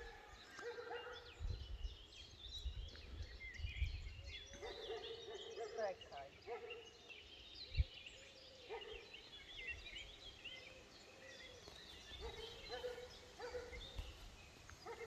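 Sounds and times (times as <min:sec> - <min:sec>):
low outdoor background noise: 0:00.0 - 0:15.0
small songbirds chirping: 0:00.0 - 0:15.0.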